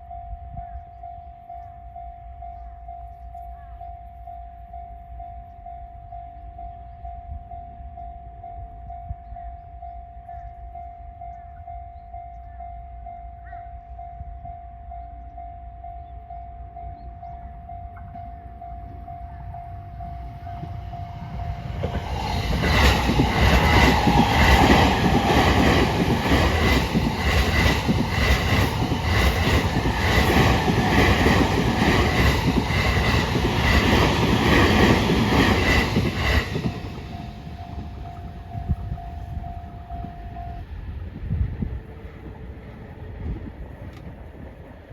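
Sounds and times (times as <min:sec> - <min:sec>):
crossing alarm steady tone: 0:00.0 - 0:41.7.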